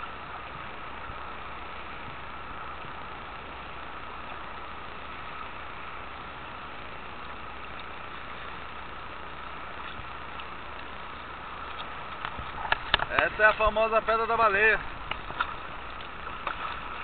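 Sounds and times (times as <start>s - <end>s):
boat engine droning: 0.0s - 17.0s
constant hiss: 0.0s - 17.0s.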